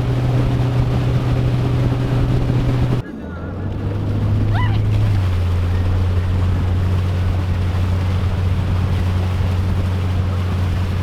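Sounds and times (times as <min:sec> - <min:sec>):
wind on microphone: 0:00.0 - 0:03.0, 0:03.6 - 0:11.0
motorboat engine humming: 0:00.0 - 0:11.0.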